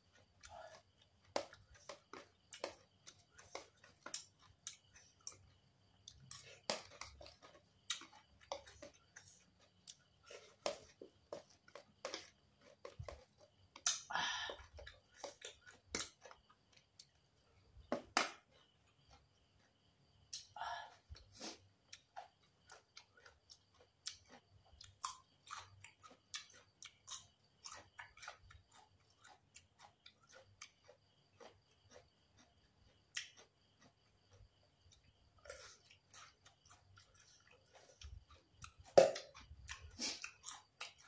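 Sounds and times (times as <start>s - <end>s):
chewing with wet mouth clicks: 0.0s - 41.0s.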